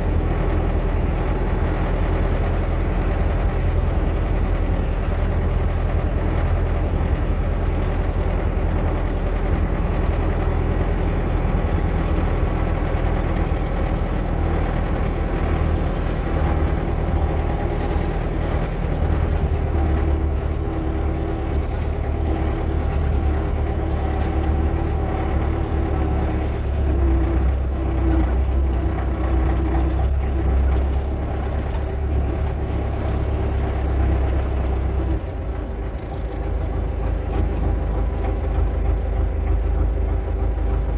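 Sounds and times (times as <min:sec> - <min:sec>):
engine running with low hum: 0:00.0 - 0:40.9.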